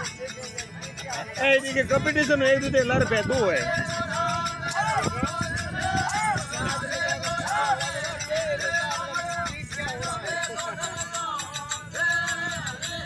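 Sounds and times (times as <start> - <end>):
steady low drum beat: 0.0 - 13.0.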